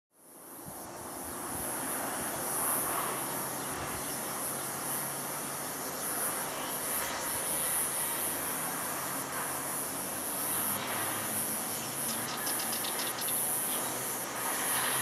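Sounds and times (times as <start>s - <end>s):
high steady buzz: 0.4s - 15.0s.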